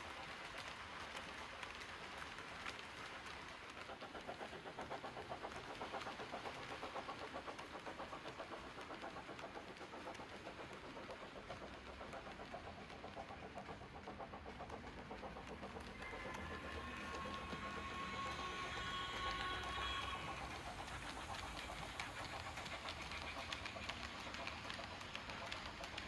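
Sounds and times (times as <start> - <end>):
model train wagons rolling: 0.0 - 26.0.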